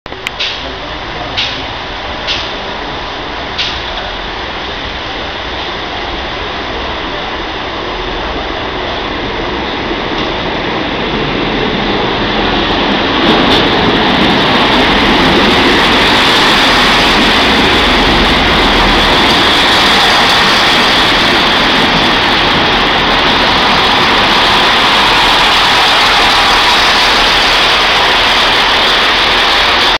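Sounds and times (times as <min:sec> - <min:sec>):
train engines and wheels rumbling: 0:00.1 - 0:29.9.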